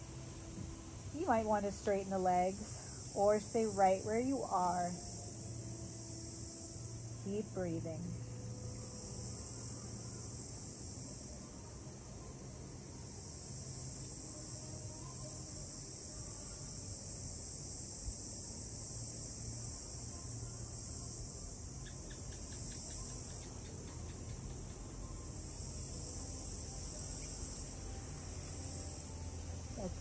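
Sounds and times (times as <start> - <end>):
crickets and insects chirring: 0.0 - 30.0.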